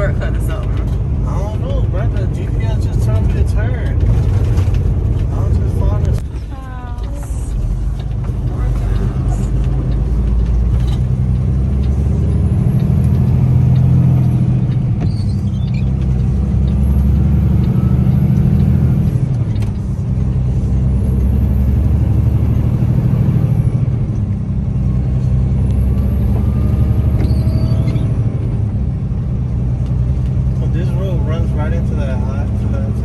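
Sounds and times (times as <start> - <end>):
diesel truck engine droning: 0.0 - 33.0.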